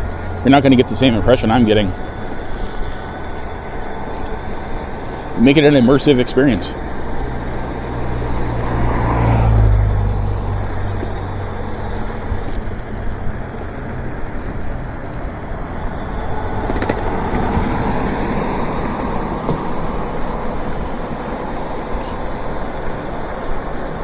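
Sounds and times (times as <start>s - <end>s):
tyres hissing on wet road: 0.0s - 24.0s
vehicle passing: 0.0s - 24.0s
wind: 0.0s - 24.0s.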